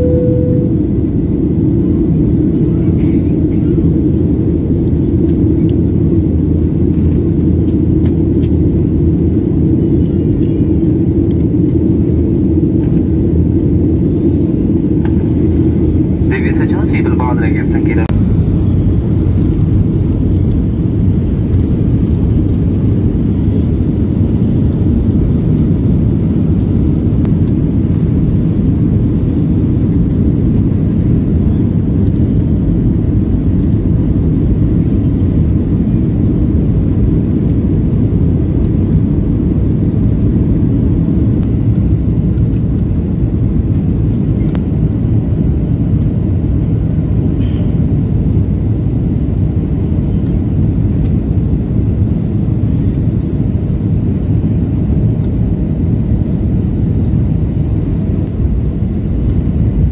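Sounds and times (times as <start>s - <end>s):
airliner cabin engine and airflow noise: 0.0s - 59.9s.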